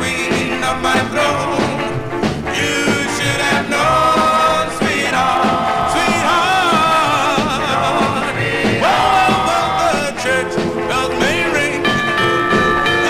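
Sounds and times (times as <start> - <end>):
rock and roll band: 0.0 - 13.0
vocal group singing harmony: 0.0 - 13.0.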